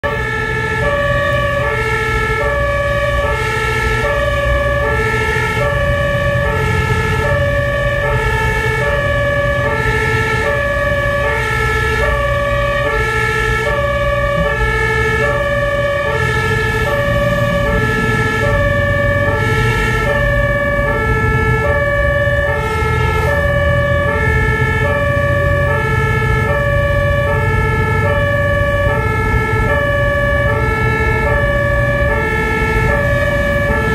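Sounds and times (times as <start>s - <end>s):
truck engine and tyre rumble: 0.0s - 33.9s
two-tone fire engine siren: 0.0s - 33.9s.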